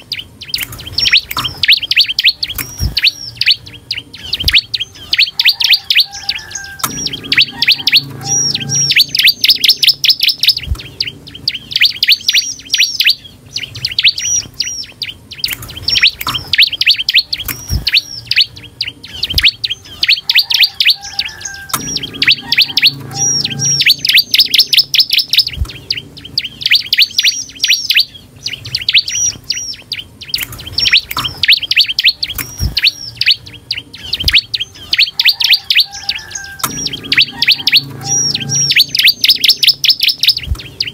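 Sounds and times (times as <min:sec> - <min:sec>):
bird chirping song: 0:00.0 - 0:40.9.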